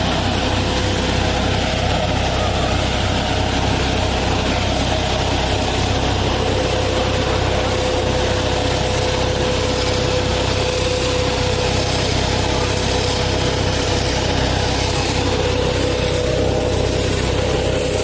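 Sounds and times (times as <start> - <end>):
machine drone with whine: 0.0 - 18.0.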